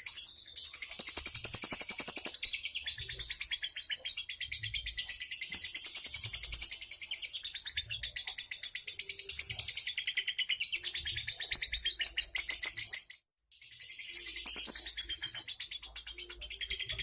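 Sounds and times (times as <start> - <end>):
songbird chirping and trilling: 0.0 - 17.0.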